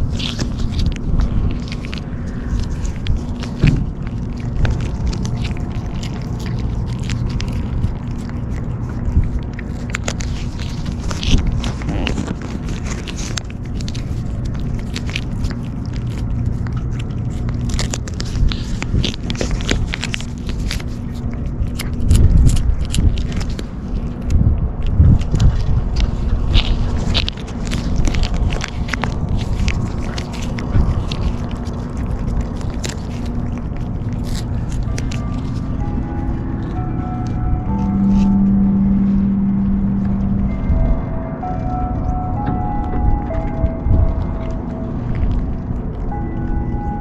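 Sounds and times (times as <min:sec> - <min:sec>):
kittens crunching cat food: 0:00.0 - 0:47.0
steady low hum: 0:00.0 - 0:47.0.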